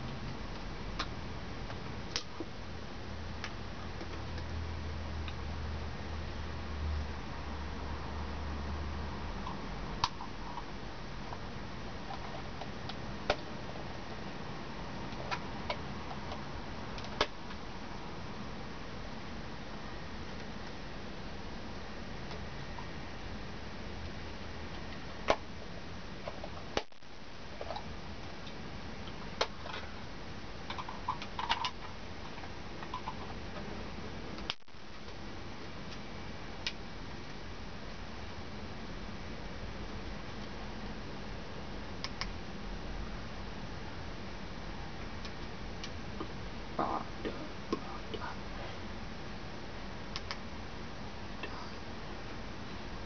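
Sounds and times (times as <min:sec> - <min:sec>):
steady low hiss: 0:00.0 - 0:53.0.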